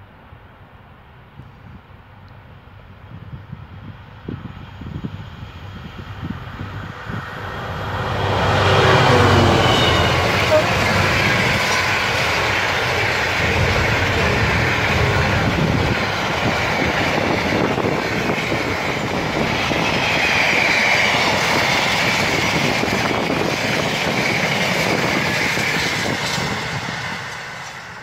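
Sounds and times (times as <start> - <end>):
freight train wheels rumbling: 0.0 - 28.0
wheel-on-rail whine: 2.3 - 28.0.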